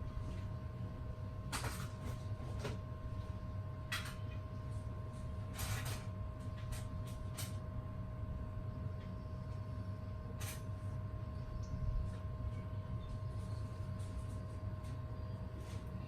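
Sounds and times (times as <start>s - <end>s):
faint whine: 0.0s - 16.0s
low hum: 0.0s - 16.0s.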